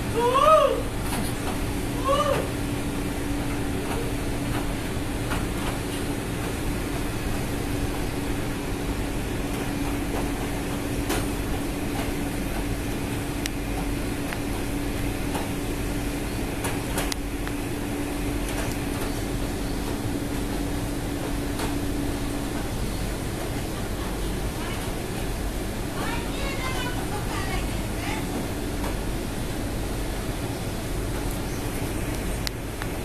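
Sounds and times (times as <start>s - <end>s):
machinery hum: 0.0s - 33.0s.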